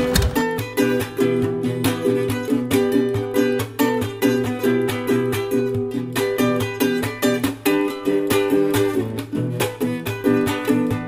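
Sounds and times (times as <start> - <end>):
plucked strummed string music: 0.0 - 11.0.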